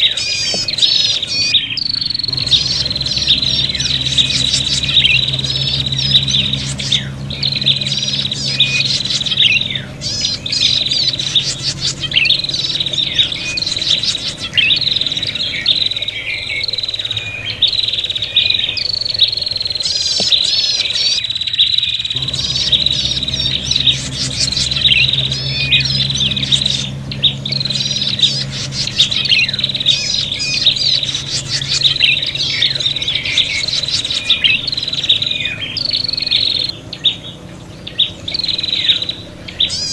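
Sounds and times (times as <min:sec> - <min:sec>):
birds chattering trills: 0:00.0 - 0:39.9.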